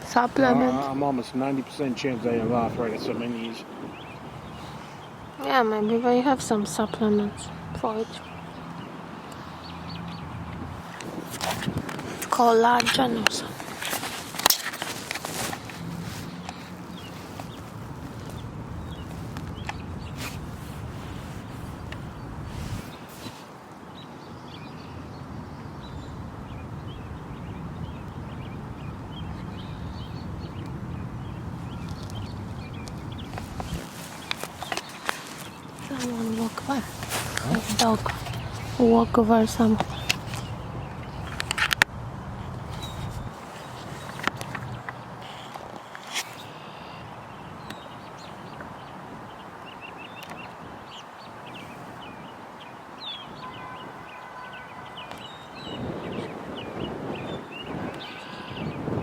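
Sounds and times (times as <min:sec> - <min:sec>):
outdoor background noise: 0:00.0 - 0:59.0
small birds chirping: 0:00.0 - 0:59.0.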